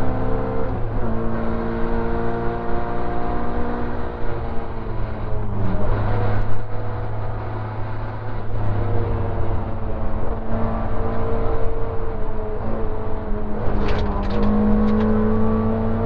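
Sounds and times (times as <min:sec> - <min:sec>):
car engine running hard: 0:00.0 - 0:16.0.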